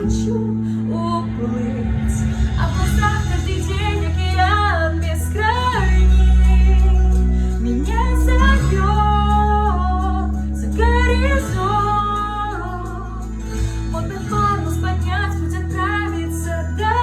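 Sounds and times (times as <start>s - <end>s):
backing track with bass: 0.0s - 17.0s
woman singing pop song: 0.0s - 17.0s.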